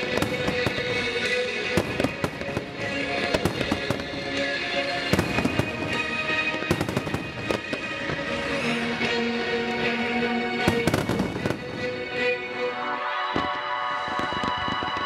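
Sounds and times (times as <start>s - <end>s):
fireworks bangs and crackles: 0.0s - 12.0s, 13.3s - 15.0s
music playing: 0.0s - 15.0s.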